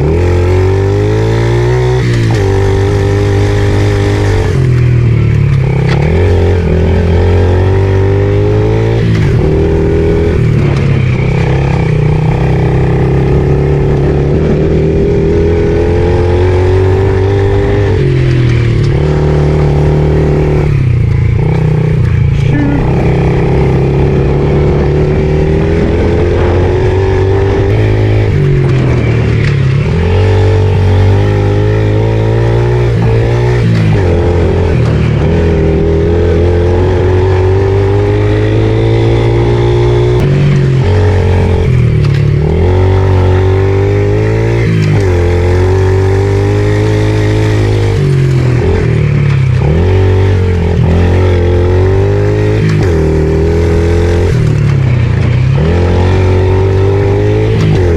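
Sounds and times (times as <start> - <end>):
pit bike engine revving: 0.0 - 57.9.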